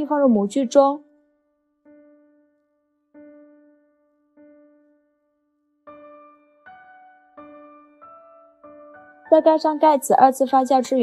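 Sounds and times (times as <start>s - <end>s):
soft slow piano music: 0.0s - 11.0s.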